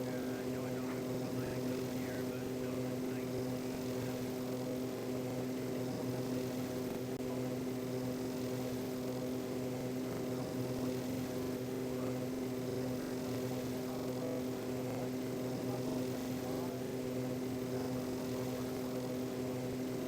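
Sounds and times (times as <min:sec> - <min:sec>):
aeroplane engines droning: 0:00.0 - 0:20.0.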